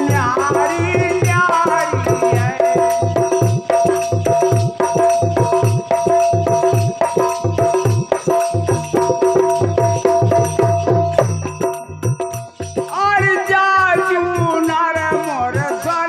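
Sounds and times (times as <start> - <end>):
fast drum beat: 0.0 - 16.0
rattling percussion: 0.0 - 16.0.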